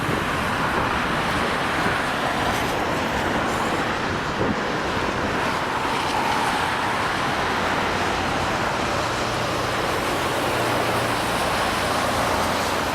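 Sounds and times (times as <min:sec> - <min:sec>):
jet engine roar: 0:00.0 - 0:12.9.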